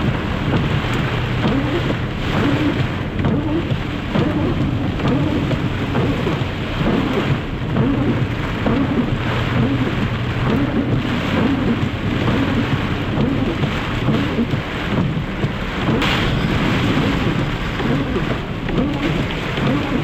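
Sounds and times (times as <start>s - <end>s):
heavy rain pouring: 0.0s - 20.0s
low thunder rumble: 0.0s - 20.0s.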